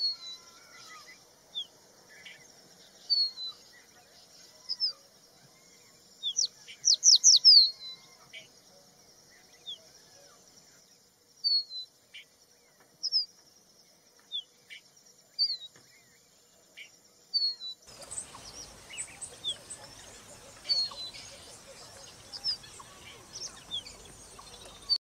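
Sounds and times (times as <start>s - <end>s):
background hiss: 0.0s - 25.0s
bird chirping: 0.0s - 25.0s.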